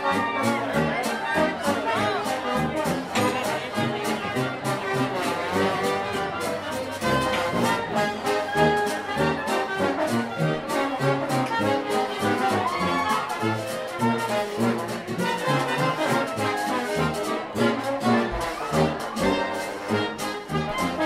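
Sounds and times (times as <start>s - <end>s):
brass band playing jazz: 0.0s - 21.0s.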